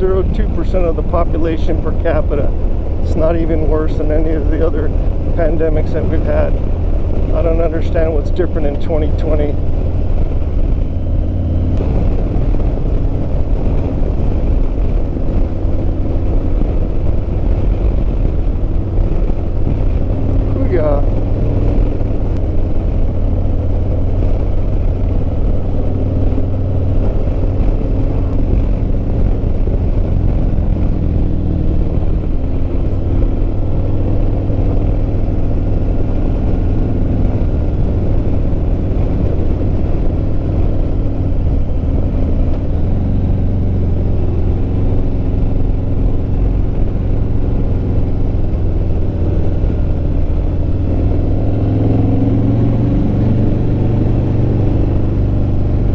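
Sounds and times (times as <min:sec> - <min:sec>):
motorcycle engine cruising: 0:00.0 - 0:55.9
wind rumble: 0:00.0 - 0:55.9.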